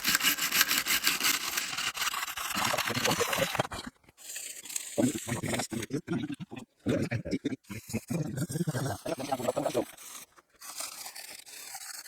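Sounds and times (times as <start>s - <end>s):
toothbrush scrubbing keyboard: 0.0s - 6.0s, 7.9s - 12.0s.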